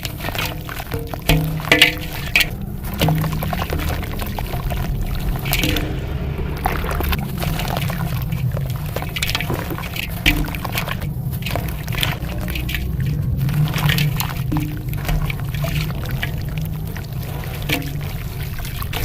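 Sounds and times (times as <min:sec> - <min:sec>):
dirt and coal crunching: 0:00.0 - 0:19.0
grains trickling: 0:00.0 - 0:19.0
steady low hum: 0:00.0 - 0:19.0.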